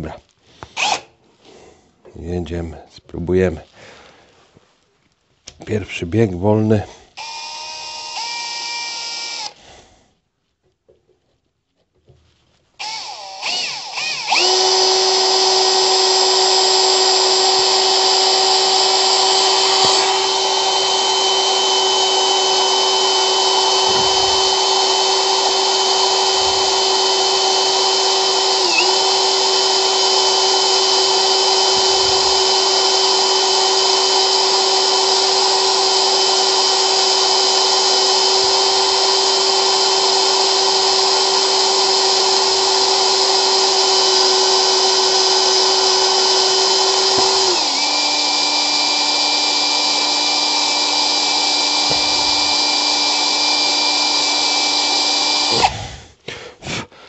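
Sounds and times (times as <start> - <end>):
cordless drill whining: 0.0 - 1.1, 7.2 - 9.7, 12.8 - 56.1
drill bit grinding metal pipe: 0.8 - 1.1, 7.2 - 9.6, 12.8 - 55.9.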